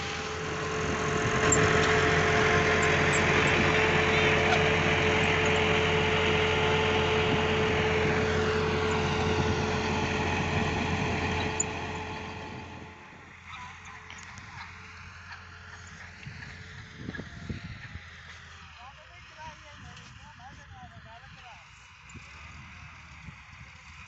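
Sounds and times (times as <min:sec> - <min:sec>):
vehicle engine whining: 0:00.0 - 0:24.0.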